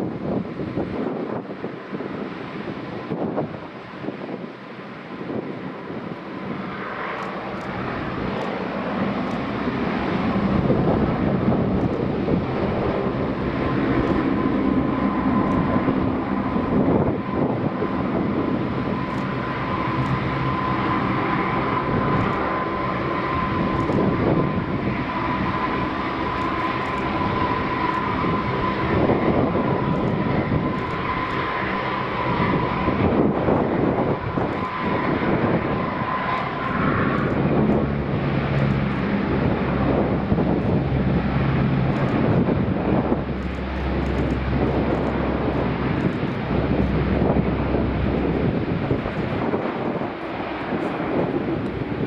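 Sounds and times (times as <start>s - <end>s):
broad rushing noise: 0.0s - 52.0s
turboprop engines whining: 0.0s - 52.0s.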